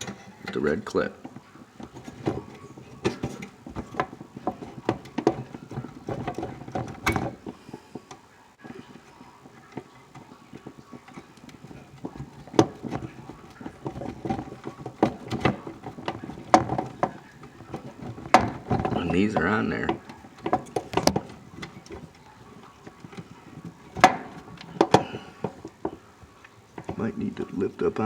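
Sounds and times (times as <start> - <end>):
hands handling wires and connectors: 0.0 - 28.0.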